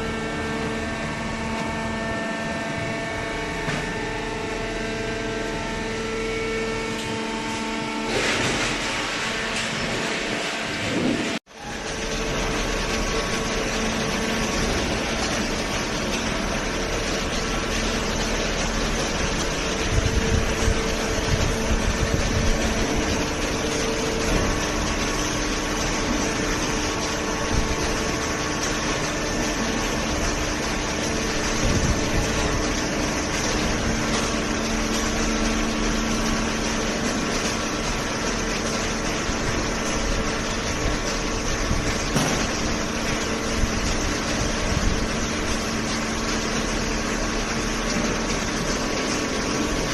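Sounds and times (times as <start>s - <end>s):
hydraulic baler humming: 0.0s - 49.9s
machine noise: 0.0s - 49.9s.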